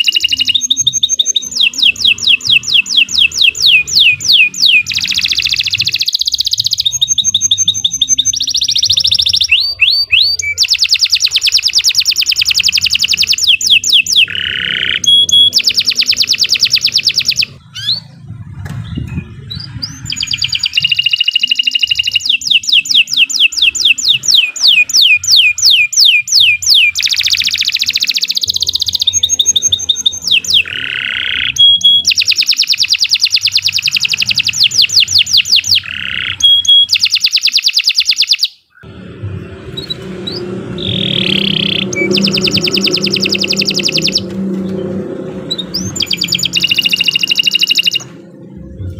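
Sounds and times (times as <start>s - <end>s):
canary singing trills: 0.0s - 18.3s, 18.9s - 38.9s, 39.6s - 48.4s.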